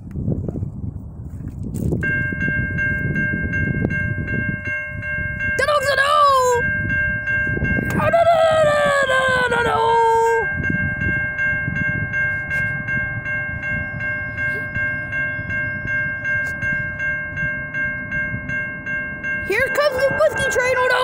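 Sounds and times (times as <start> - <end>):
railroad crossing bell ringing: 1.8 - 21.0.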